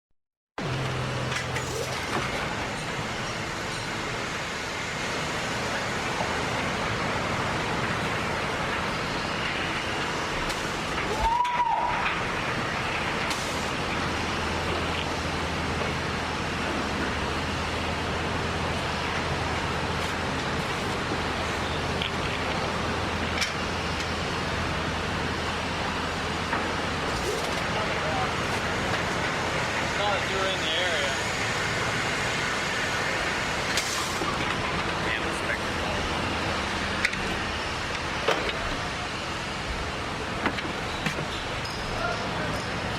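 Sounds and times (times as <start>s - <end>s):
elevator machinery running: 0.6s - 42.9s.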